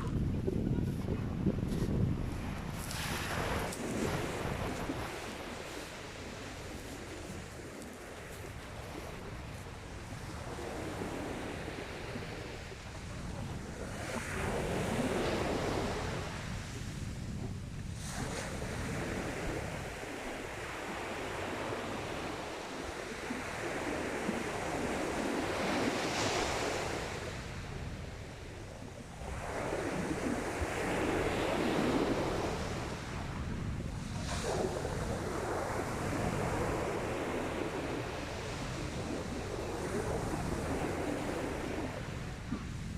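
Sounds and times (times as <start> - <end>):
wind rumble on microphone: 0.0 - 42.9.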